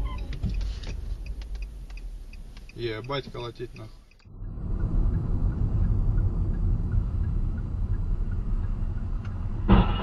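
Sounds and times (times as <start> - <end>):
car engine rumble: 0.0 - 10.0
tyres on road: 0.0 - 10.0.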